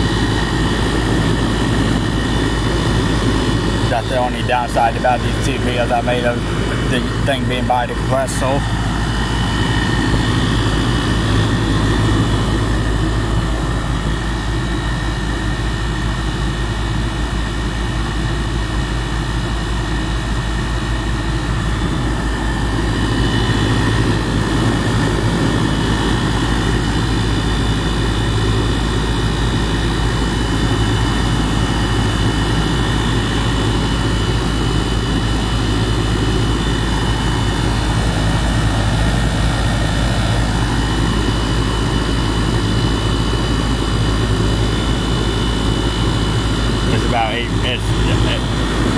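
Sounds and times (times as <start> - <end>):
compressor hum: 0.0 - 48.9
constant whining tones: 0.0 - 48.9
fan rushing air: 0.0 - 48.9.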